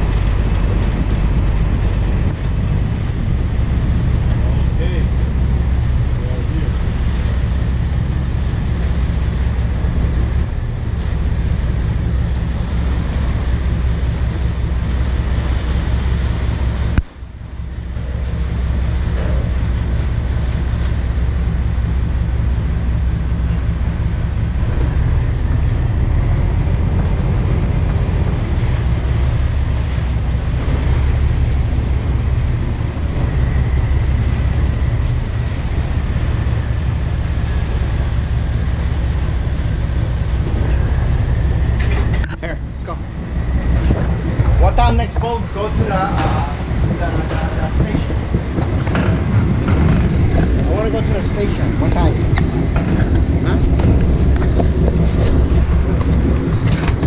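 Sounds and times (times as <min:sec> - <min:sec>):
boat engine droning: 0:00.0 - 0:57.0
water rushing: 0:00.0 - 0:57.0
wind on microphone: 0:00.0 - 0:57.0.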